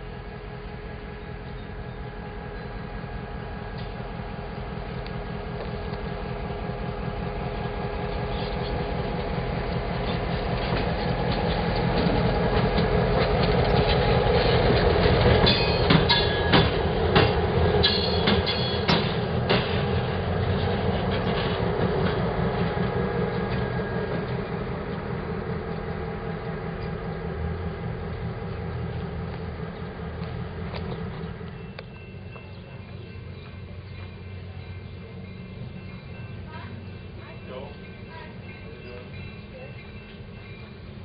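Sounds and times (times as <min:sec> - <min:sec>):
diesel locomotive engine drone: 0:00.0 - 0:41.0.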